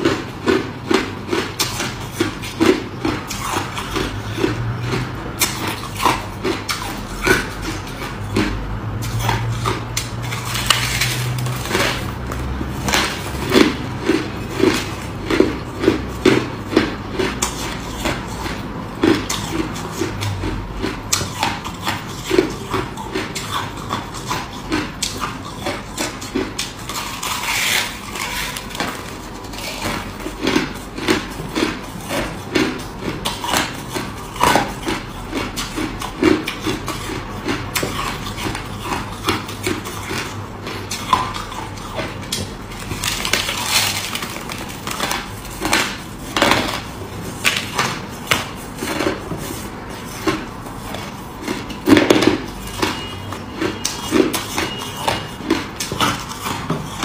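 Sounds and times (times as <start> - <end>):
crushed ice being chewed: 0.0 - 57.0.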